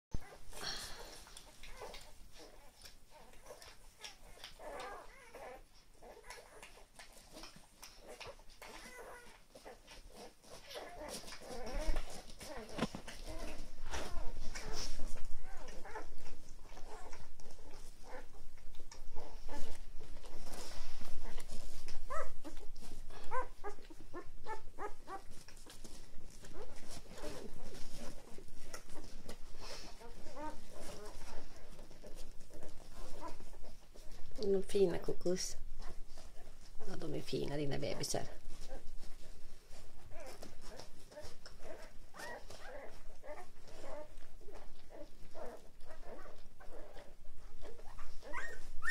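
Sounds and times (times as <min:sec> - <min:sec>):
soft rustling of puppies: 0:00.1 - 0:48.9
puppies squeaking and whimpering: 0:00.2 - 0:37.0, 0:37.8 - 0:48.9.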